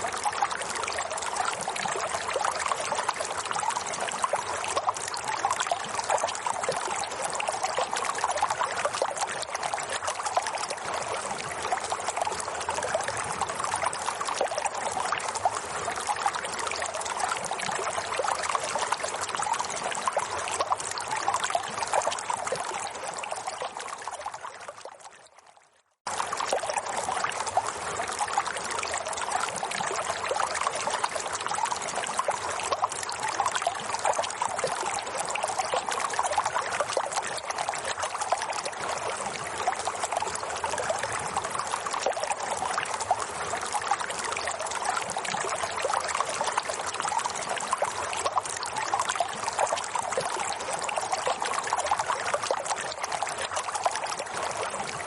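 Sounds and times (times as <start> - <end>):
stream trickling and gurgling: 0.0 - 55.0.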